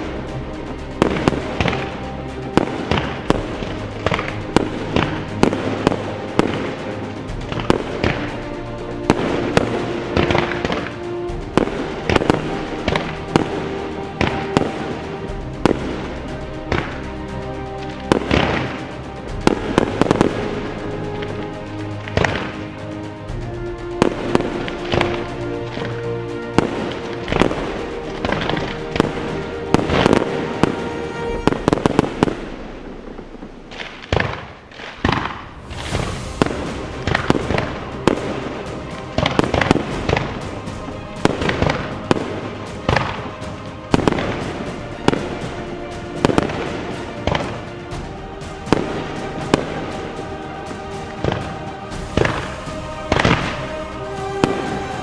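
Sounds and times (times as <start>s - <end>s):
fireworks bursting: 0.0s - 55.0s
music with held tones: 0.0s - 55.0s.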